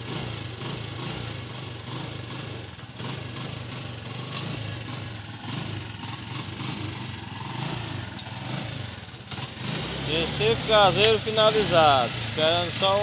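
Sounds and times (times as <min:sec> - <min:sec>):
small petrol engine idling: 0:00.0 - 0:13.0.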